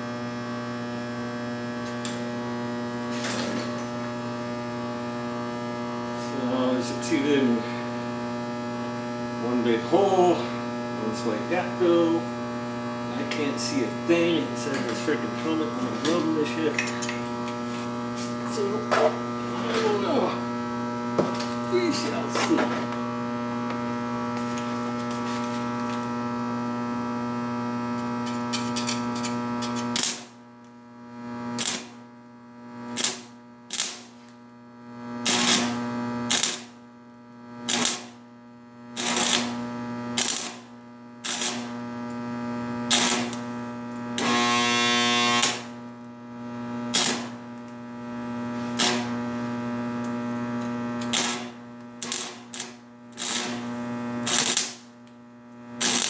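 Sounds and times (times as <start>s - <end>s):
welder electric buzz: 0.0s - 56.0s
welding arc bursts: 6.3s - 27.2s, 27.8s - 30.4s, 31.3s - 32.0s, 32.9s - 34.2s, 35.0s - 36.9s, 37.5s - 38.2s, 38.9s - 56.0s.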